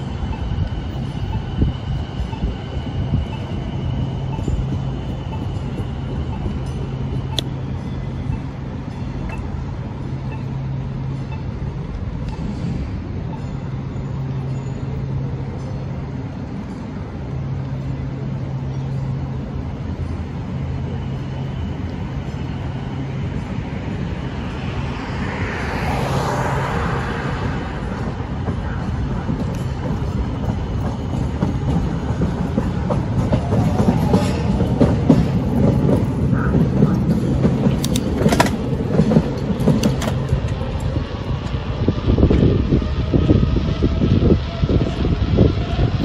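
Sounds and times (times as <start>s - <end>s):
street traffic noise: 0.0s - 46.0s.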